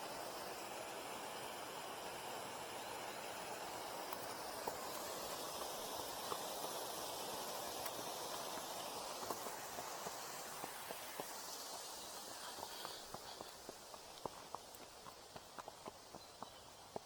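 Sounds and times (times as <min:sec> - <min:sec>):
rustling outdoor hiss: 0:00.0 - 0:17.0.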